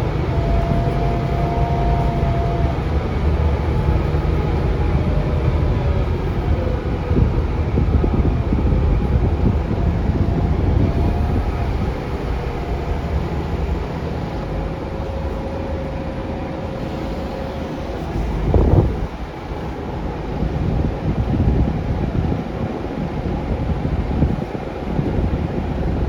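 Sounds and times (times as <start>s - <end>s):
bus engine and road rumble: 0.0s - 26.0s
faint steady whine: 0.0s - 26.0s.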